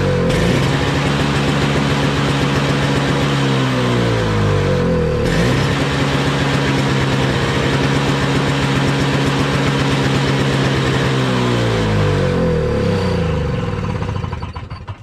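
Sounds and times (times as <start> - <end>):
snowblower engine running: 0.0 - 15.0.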